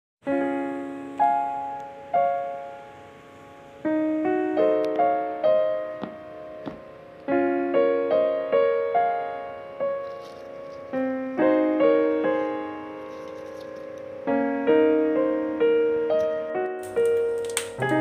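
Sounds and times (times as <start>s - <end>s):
gentle piano music: 0.2s - 18.0s.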